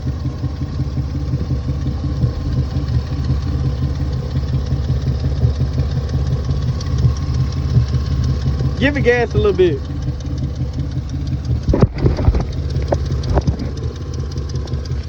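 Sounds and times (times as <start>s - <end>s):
car engine idling with misfire: 0.0s - 15.0s.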